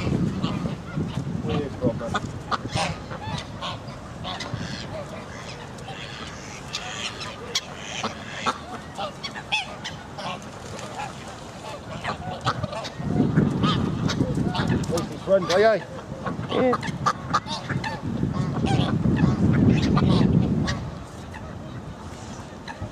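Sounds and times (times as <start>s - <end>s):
geese honking: 0.0s - 21.9s
ducks calling: 0.0s - 22.9s.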